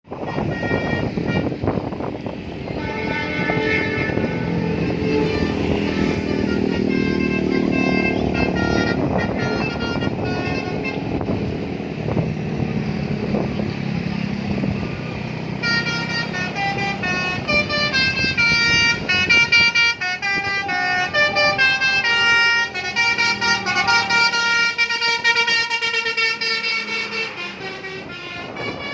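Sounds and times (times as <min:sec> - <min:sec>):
bus engine: 0:00.0 - 0:28.9
bus musical horn playing notes: 0:00.1 - 0:12.2, 0:14.8 - 0:28.9.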